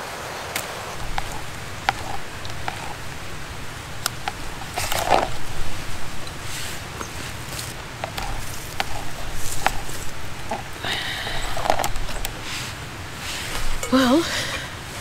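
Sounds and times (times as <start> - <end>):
utensil scraping: 1.0 - 15.0.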